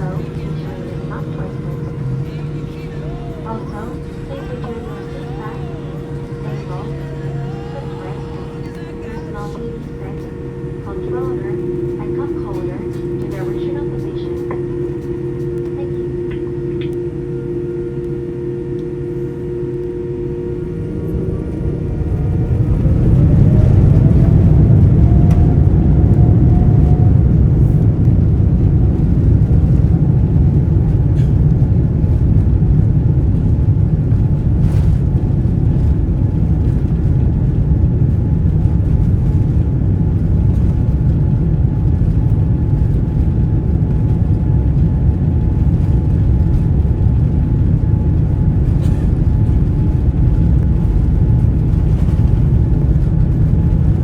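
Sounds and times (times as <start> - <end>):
jet engines spooling up: 0.0 - 54.0
rumble of takeoff roll: 0.0 - 54.0.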